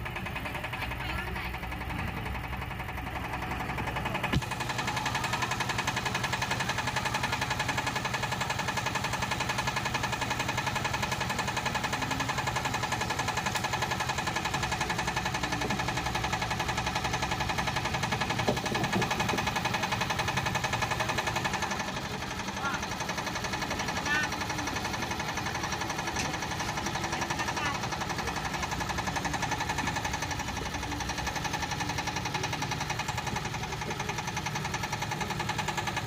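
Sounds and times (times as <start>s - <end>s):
diesel engine knocking: 0.0s - 36.0s.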